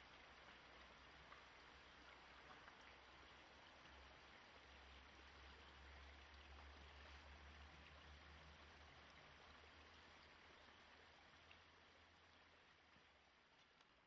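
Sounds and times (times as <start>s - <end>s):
light hiss: 0.0s - 14.0s.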